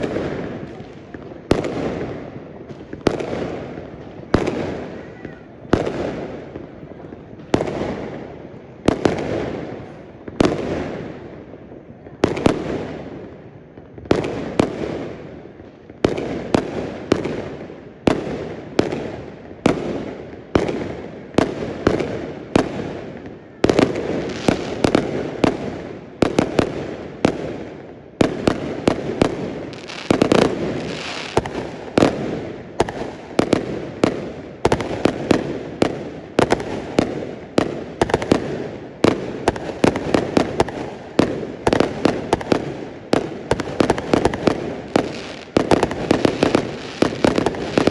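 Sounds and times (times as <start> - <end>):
fireworks bangs: 0.0 - 47.9.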